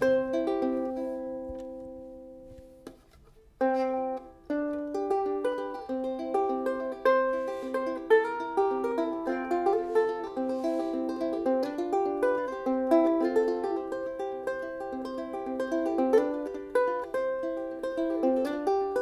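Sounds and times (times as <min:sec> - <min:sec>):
fingerpicked ukulele: 0:00.0 - 0:19.0.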